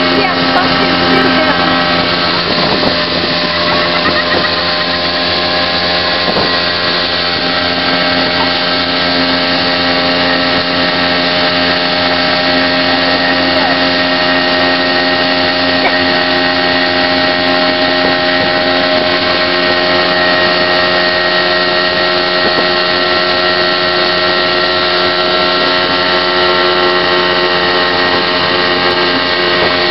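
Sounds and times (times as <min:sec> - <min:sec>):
outboard motor running at high speed: 0:00.0 - 0:29.9.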